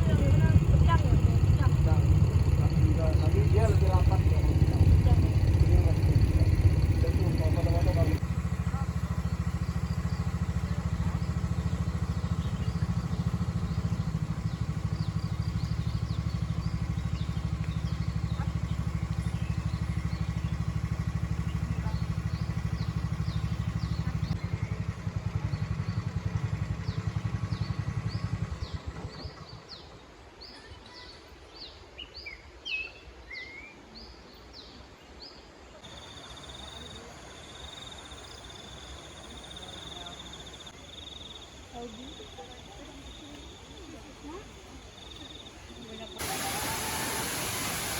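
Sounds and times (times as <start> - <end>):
small engine running: 0.0 - 29.9, 35.8 - 47.9.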